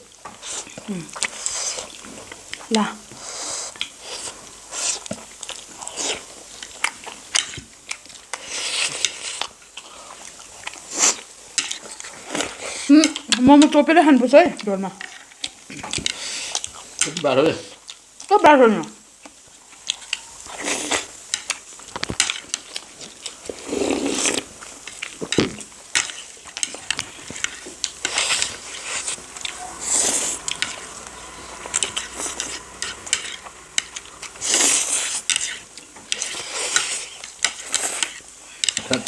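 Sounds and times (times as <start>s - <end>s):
slurping noodles and soup: 0.0s - 13.3s, 15.0s - 17.0s, 19.2s - 39.0s.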